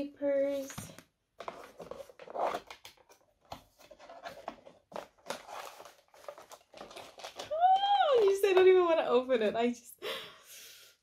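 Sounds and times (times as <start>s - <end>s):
paper and cardboard rustling: 0.5s - 9.4s.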